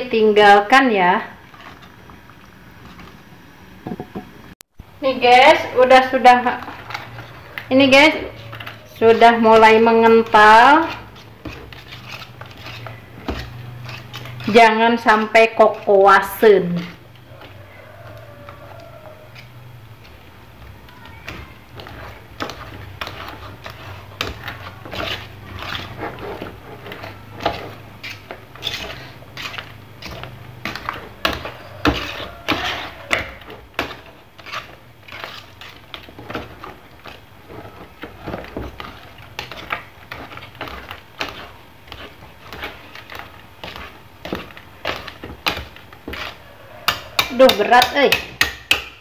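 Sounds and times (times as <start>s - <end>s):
utensil scraping a metal pot: 5.5s - 49.0s.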